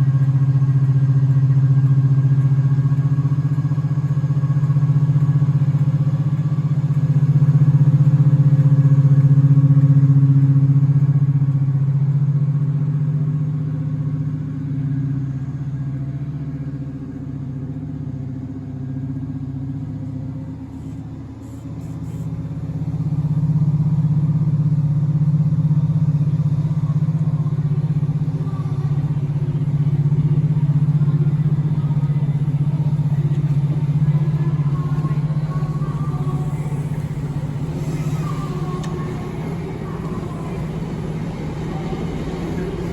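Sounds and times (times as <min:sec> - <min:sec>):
diesel locomotive engine droning: 0:00.0 - 0:42.9.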